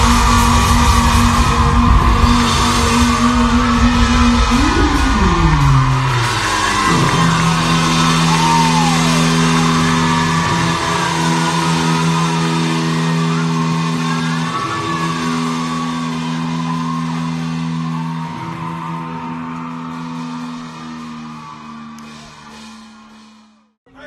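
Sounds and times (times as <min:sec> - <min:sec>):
rock band playing: 0:00.0 - 0:23.6
audience screaming and cheering: 0:00.0 - 0:23.8.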